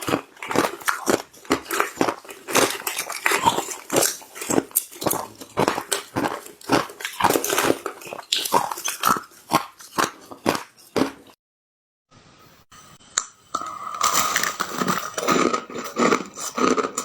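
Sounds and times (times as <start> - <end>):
ice being chewed: 0.0 - 11.4, 13.6 - 17.0.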